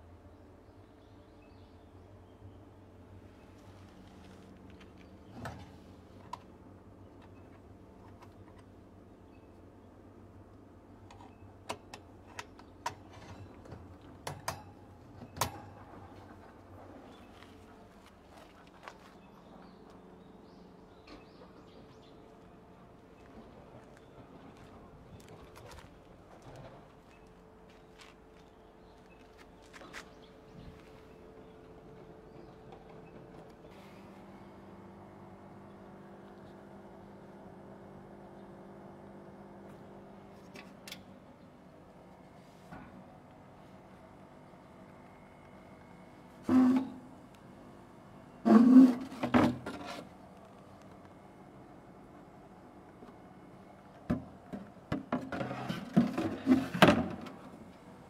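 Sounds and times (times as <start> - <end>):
refrigerator humming: 0.0 - 58.0.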